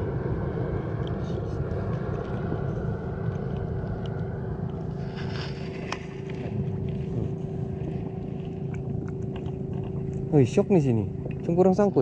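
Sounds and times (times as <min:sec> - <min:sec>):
steady low hum: 0:00.0 - 0:12.0
wind rumbling on microphone: 0:00.0 - 0:12.0.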